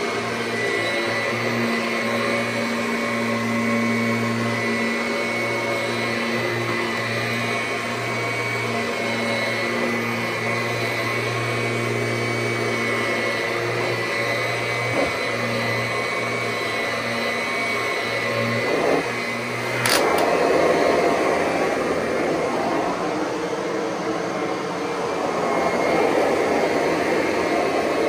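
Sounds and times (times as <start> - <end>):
vacuum cleaner running on carpet: 0.0 - 28.0.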